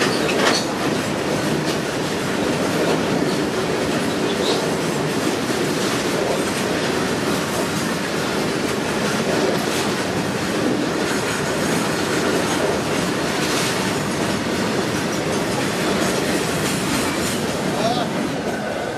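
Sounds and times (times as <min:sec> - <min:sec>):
freight wagons rumbling on rails: 0:00.0 - 0:18.9.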